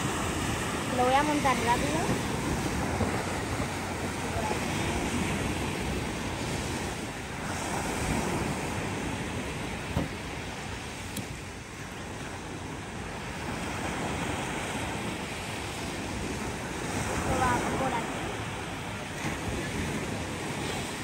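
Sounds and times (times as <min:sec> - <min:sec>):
surf breaking on beach: 0:00.0 - 0:21.0
wind on microphone: 0:00.0 - 0:21.0.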